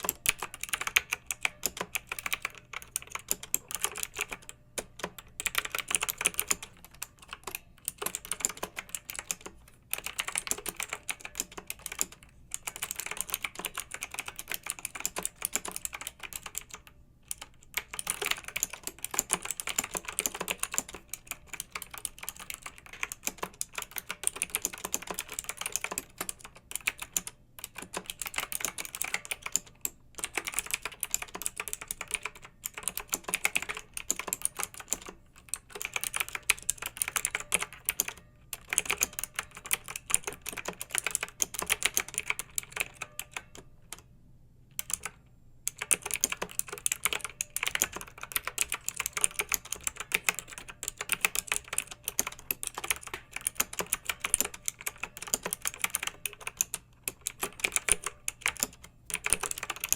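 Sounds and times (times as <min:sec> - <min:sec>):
mechanical keyboard typing: 0:00.0 - 0:44.1, 0:44.8 - 0:59.9.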